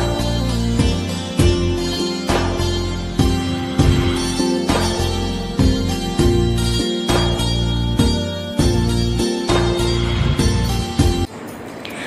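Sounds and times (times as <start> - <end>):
slow instrumental music: 0.0 - 11.3.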